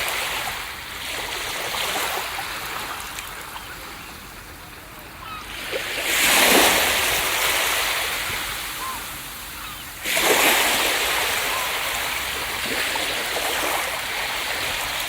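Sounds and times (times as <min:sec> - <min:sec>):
surf hissing on a beach: 0:00.0 - 0:15.0.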